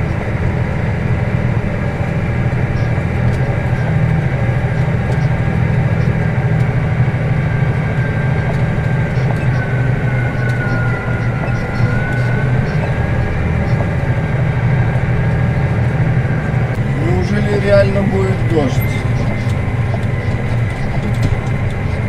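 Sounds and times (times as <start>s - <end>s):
tractor diesel engine drone: 0.0s - 22.0s
faint high whine: 1.8s - 22.0s.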